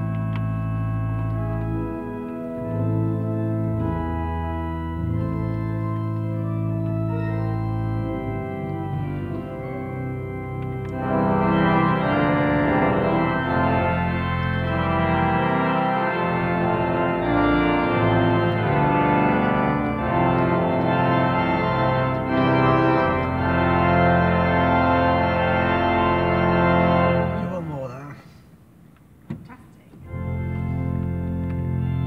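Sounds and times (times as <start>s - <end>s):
pipe organ sustained chords: 0.0s - 28.2s, 30.0s - 32.0s.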